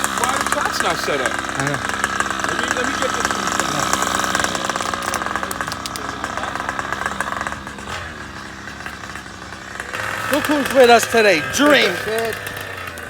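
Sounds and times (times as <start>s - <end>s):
small gas engine running: 0.0s - 13.0s.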